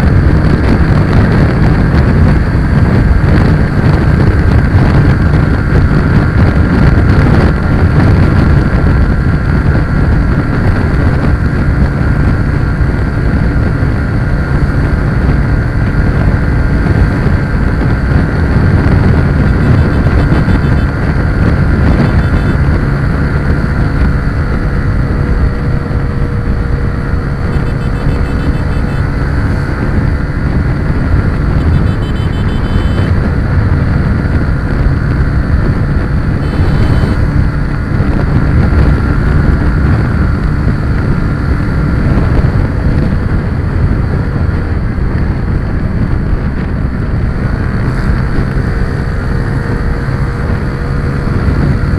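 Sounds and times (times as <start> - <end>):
vehicle engine running: 0.0 - 51.9
wind rushing over microphone: 0.0 - 51.9.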